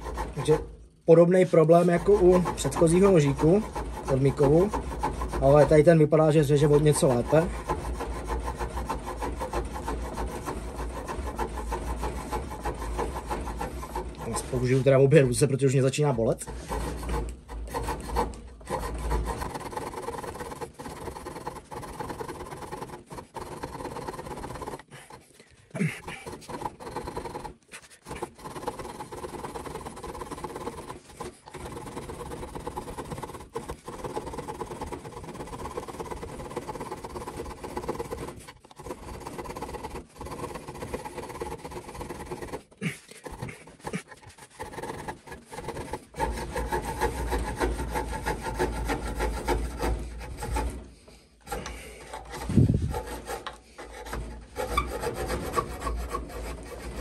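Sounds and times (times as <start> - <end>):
small saw rasping through wood: 0.0 - 57.0.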